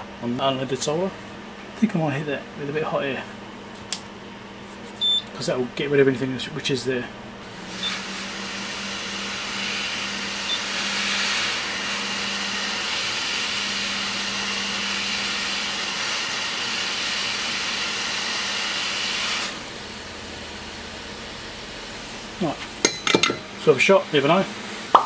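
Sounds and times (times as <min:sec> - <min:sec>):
hot air blower hissing: 0:04.4 - 0:25.0.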